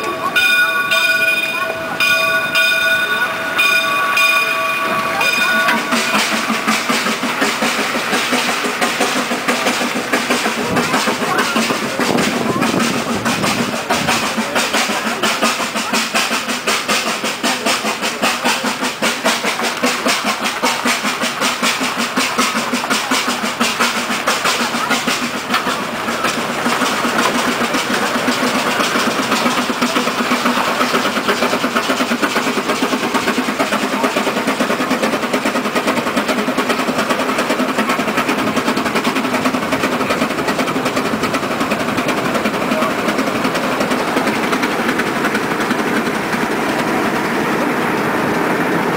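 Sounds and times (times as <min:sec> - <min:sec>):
steam engine rhythmic beat: 0:00.0 - 0:48.9.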